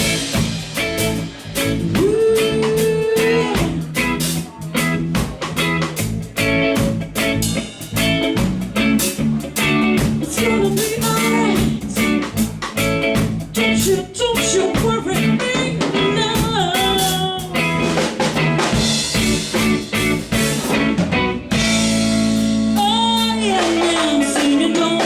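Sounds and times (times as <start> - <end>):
live reggae band playing: 0.0 - 25.0.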